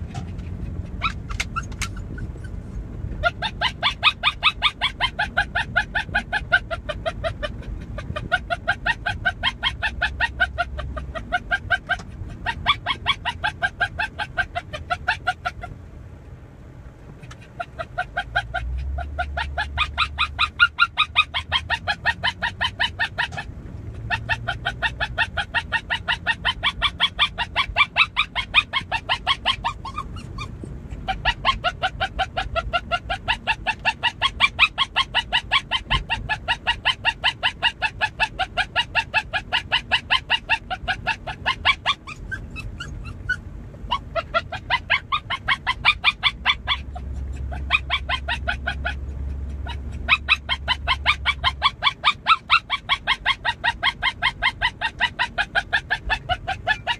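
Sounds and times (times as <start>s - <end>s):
dog yipping: 0.0s - 15.8s, 17.1s - 56.9s.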